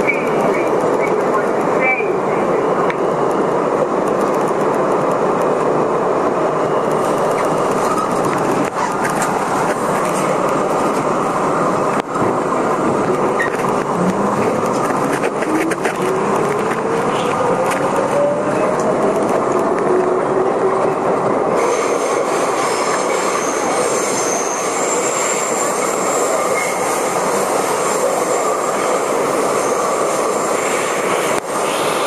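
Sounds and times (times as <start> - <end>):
subway car noise: 0.0 - 32.0.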